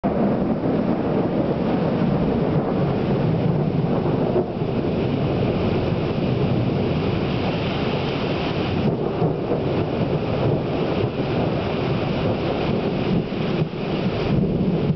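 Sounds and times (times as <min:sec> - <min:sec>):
heavy rain on street and car: 0:00.0 - 0:14.9.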